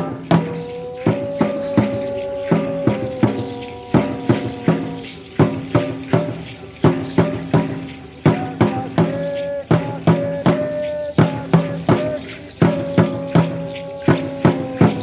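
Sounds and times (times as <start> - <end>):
drum beating steady pattern: 0.0 - 15.0.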